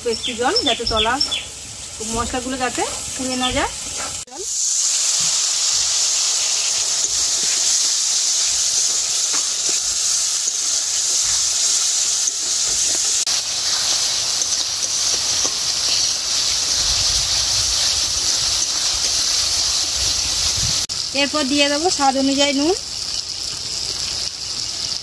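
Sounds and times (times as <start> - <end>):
spice paste sizzling in oil: 0.0 - 25.0.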